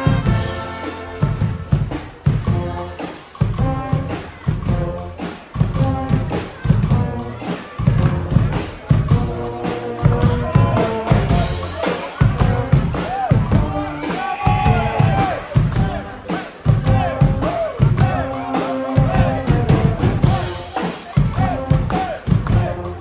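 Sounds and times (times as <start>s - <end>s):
brass band playing: 0.0s - 23.0s
heavy bass drum beat: 0.0s - 23.0s.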